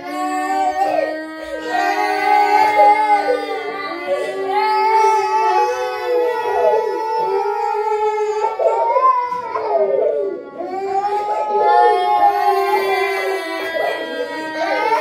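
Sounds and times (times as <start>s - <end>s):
children wailing and crying: 0.0s - 15.0s.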